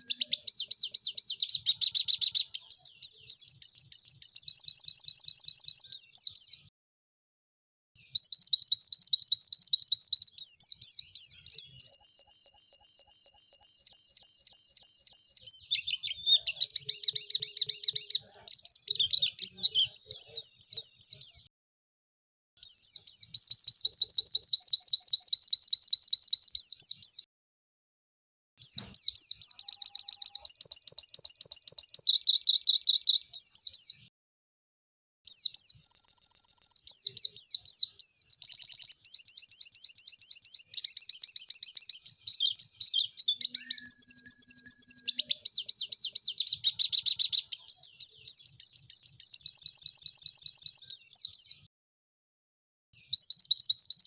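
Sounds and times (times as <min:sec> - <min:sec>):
bird singing high chattering song: 0:00.0 - 0:06.7, 0:08.0 - 0:21.5, 0:22.6 - 0:27.3, 0:28.6 - 0:34.1, 0:35.3 - 0:51.7, 0:53.0 - 0:54.0.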